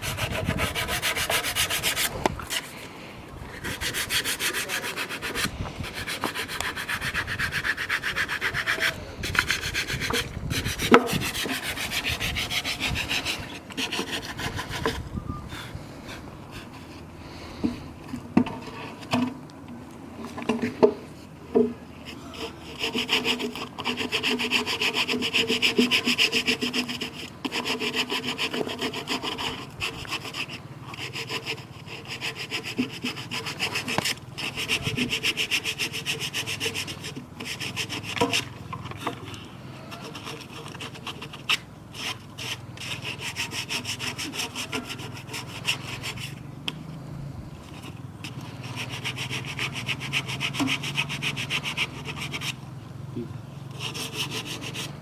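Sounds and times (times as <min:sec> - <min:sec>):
saw cutting wood: 0:00.0 - 0:02.9, 0:03.5 - 0:16.8, 0:22.0 - 0:46.4, 0:47.6 - 0:52.7, 0:53.7 - 0:55.0.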